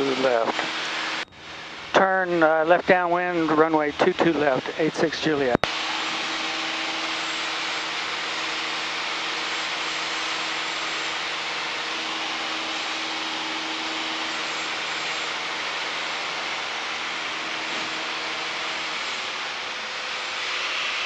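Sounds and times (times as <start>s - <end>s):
airplane engine droning: 0.0s - 21.0s.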